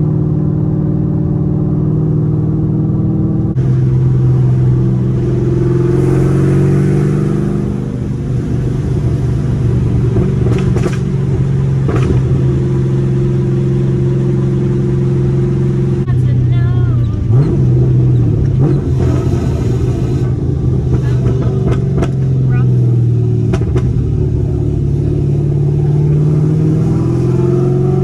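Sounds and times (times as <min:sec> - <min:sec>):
car engine running loud: 0:00.0 - 0:28.0.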